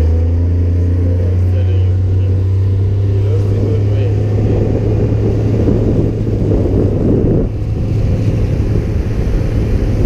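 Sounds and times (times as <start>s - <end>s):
speedboat engine humming: 0.0s - 10.0s
wind buffeting microphone: 1.2s - 10.0s.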